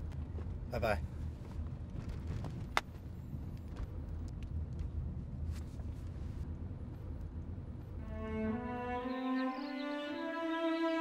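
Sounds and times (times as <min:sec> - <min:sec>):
car engine and tyre noise: 0:00.0 - 0:10.3.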